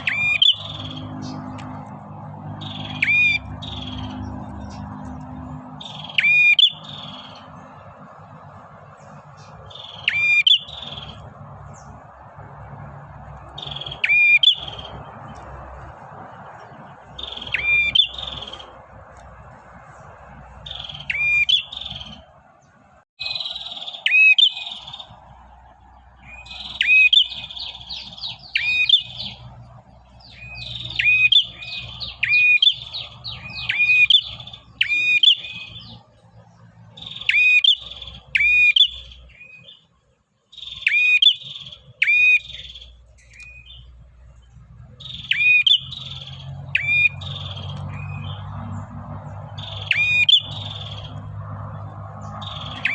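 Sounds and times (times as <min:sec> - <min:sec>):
warbler chirping: 0:00.0 - 0:52.9.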